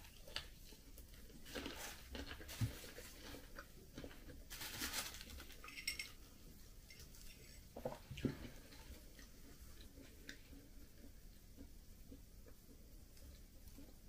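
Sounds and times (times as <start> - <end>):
person chewing food: 0.0 - 4.5, 6.6 - 14.0.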